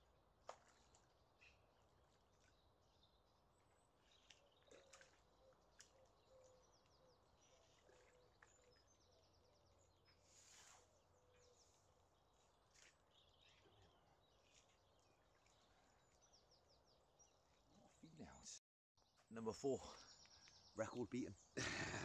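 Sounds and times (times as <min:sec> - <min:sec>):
faint birdsong chirps: 0:00.0 - 0:22.0.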